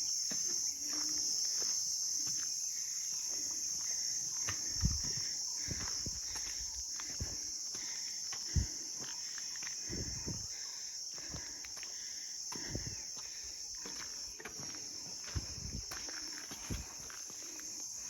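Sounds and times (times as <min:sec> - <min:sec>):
high-pitched insect drone: 0:00.0 - 0:18.0
footsteps thudding on trail: 0:00.2 - 0:18.0.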